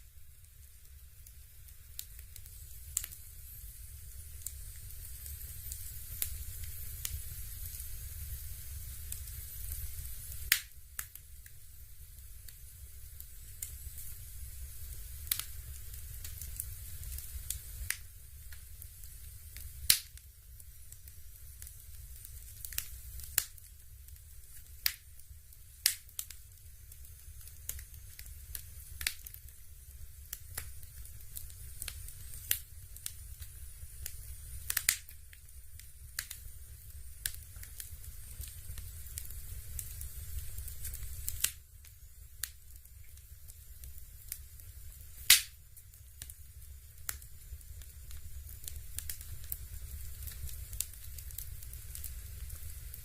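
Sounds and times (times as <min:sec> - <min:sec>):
electric fireplace crackling: 0:00.0 - 0:53.0
low steady hum: 0:00.0 - 0:53.0.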